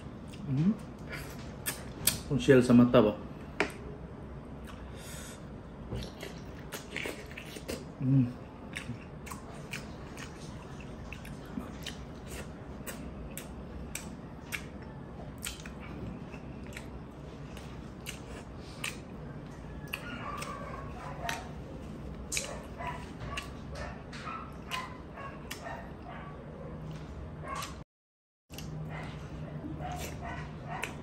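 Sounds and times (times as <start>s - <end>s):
wet chewing and mouth smacks: 0.2s - 2.3s, 6.0s - 8.0s, 8.6s - 26.2s, 26.8s - 27.8s, 28.5s - 31.0s.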